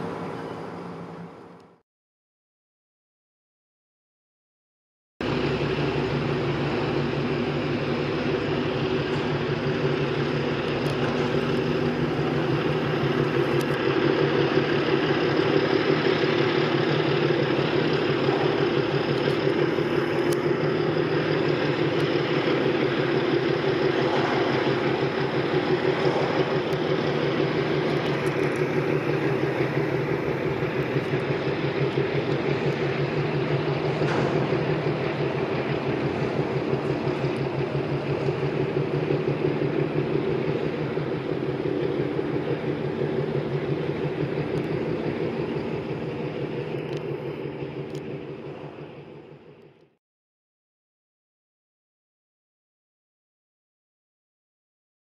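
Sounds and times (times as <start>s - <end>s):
diesel engine throb: 5.2s - 50.0s.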